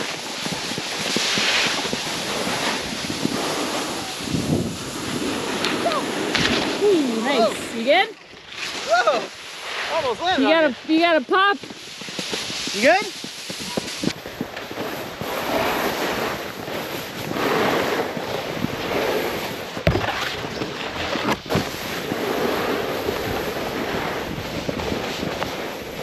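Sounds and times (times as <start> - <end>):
wind on microphone: 0.0 - 8.0, 10.2 - 26.0
snowboard scraping slushy snow: 0.0 - 26.0.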